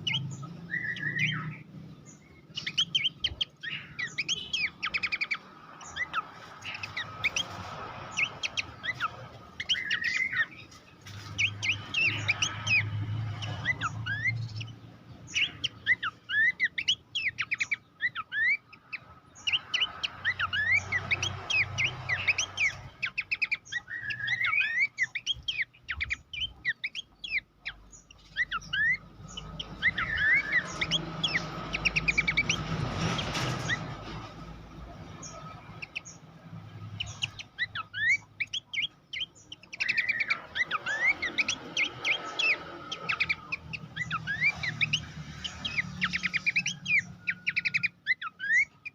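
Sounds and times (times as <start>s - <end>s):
bird chirping and whistling: 0.0s - 48.9s.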